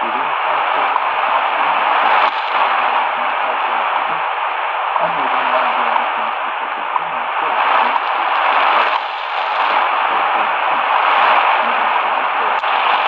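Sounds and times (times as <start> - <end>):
faint radio voice: 0.0 - 13.0
shortwave radio static hissing: 0.0 - 13.0.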